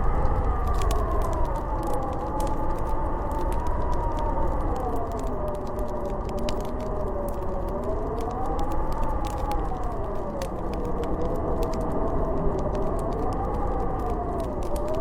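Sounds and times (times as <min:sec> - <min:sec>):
howling blizzard wind: 0:00.0 - 0:15.0
wood fire crackling: 0:00.0 - 0:15.0.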